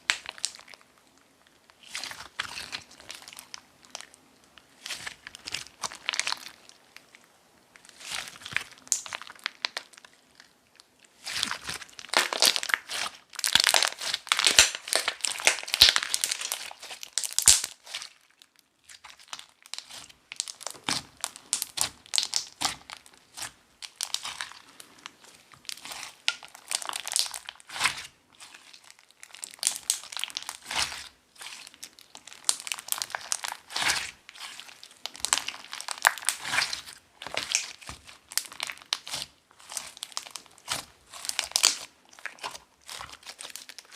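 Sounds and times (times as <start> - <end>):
hands squishing slime: 0.0 - 0.8, 1.6 - 7.2, 7.8 - 43.9
slime crackling and popping: 0.0 - 0.8, 1.5 - 7.2, 7.8 - 43.9.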